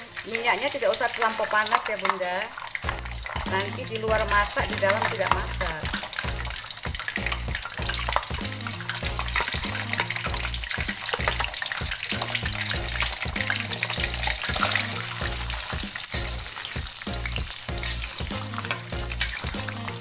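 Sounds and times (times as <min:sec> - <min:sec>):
peanuts sizzling in oil: 0:00.0 - 0:20.0
background music: 0:02.8 - 0:20.0.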